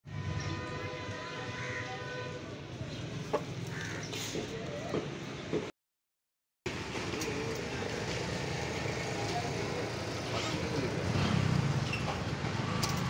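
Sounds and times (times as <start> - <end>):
road noise: 0.0 - 5.7, 6.7 - 13.0.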